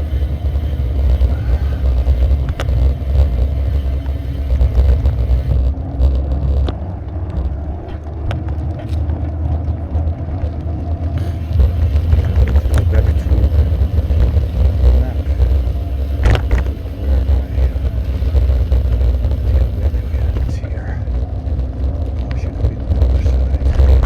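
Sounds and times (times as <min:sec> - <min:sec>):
bicycle rattling on rough road: 0:00.0 - 0:24.0.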